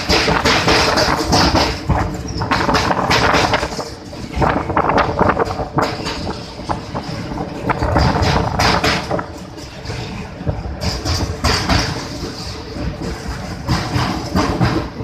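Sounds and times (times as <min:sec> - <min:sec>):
train rattling: 0:00.0 - 0:15.0.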